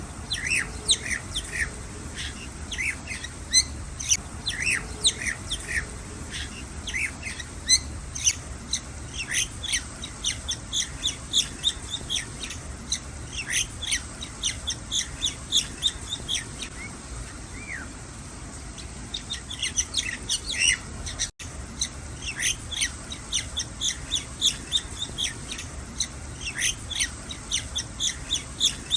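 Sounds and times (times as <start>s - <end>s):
young birds chirping: 0.0s - 28.9s.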